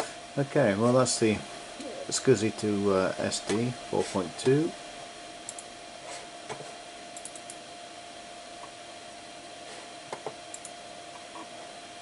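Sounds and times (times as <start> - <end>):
computer hum over hiss: 0.0 - 12.0.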